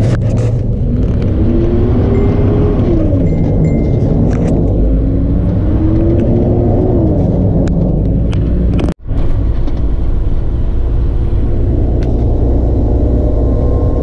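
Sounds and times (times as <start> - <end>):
diesel truck engine rumble: 0.0 - 14.0.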